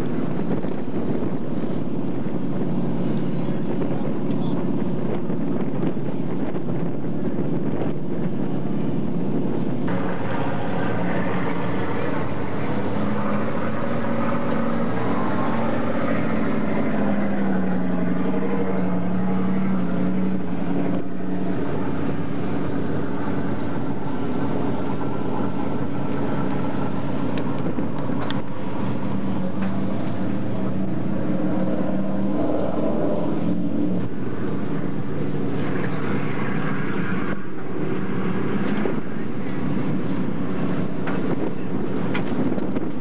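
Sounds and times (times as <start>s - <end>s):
race car engines running: 0.0s - 43.0s.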